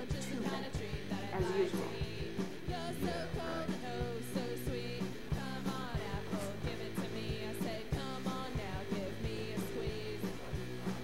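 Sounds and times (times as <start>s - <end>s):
drum beat: 0.0s - 11.0s
guitar: 0.0s - 11.0s
rock music: 0.0s - 11.0s.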